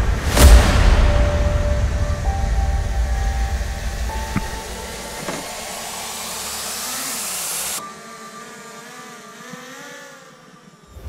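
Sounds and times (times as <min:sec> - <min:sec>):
drone propellers whining: 0:02.0 - 0:11.0.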